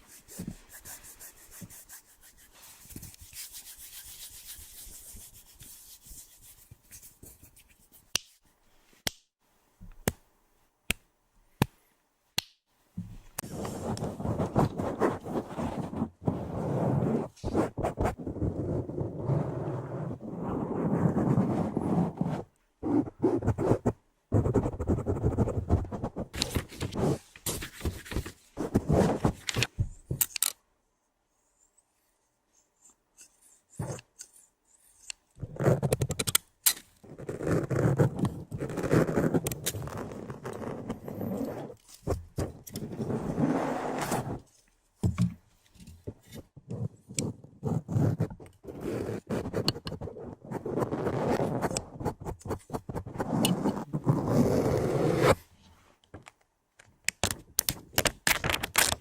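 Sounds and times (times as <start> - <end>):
rubbing and scraping on microphone: 0.0 - 8.4, 13.0 - 30.2, 32.8 - 36.3, 37.0 - 55.9.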